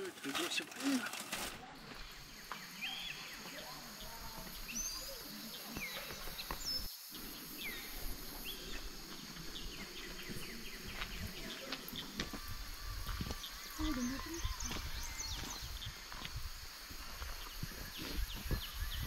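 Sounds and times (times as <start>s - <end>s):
outdoor background noise: 0.0s - 19.0s
small birds chirping: 0.0s - 19.0s.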